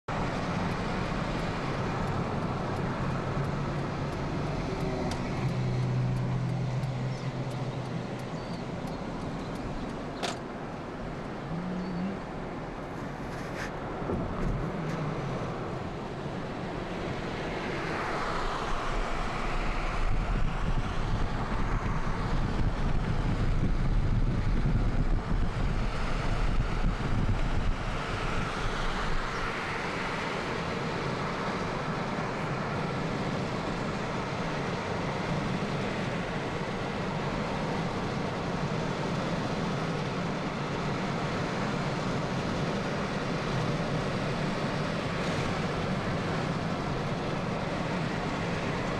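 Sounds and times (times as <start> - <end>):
car road noise: 0.0 - 48.9.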